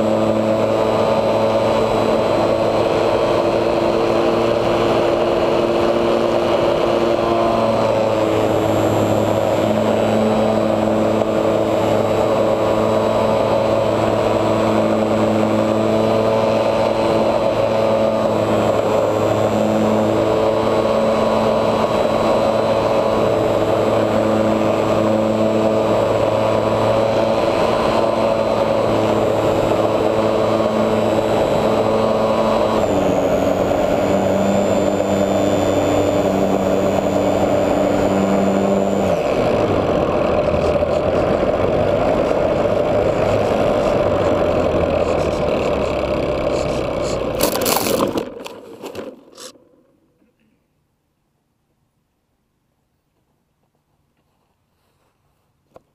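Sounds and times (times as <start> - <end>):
model plane electric motor and propeller: 0.0 - 50.5.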